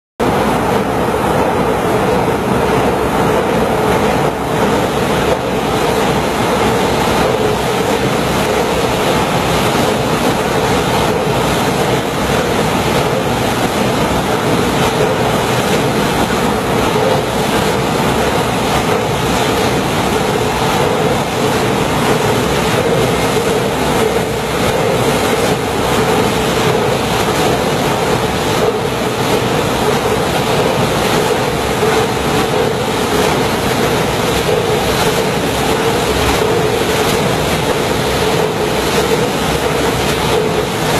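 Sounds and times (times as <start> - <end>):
marine diesel engine running: 0.2 - 40.9.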